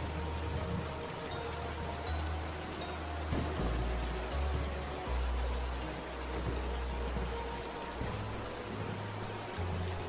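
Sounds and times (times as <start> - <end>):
rain on a roof: 0.0 - 10.0.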